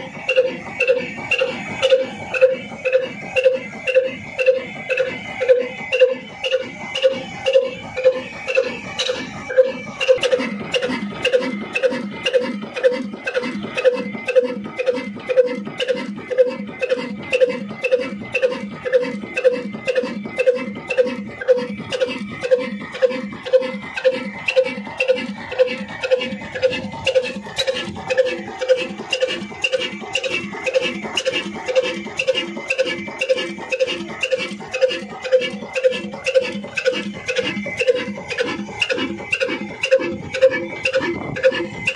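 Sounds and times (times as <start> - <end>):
diesel engine running slowly: 0.0 - 41.9
metallic ticks: 0.0 - 41.9
valve gear clicking: 0.0 - 41.9.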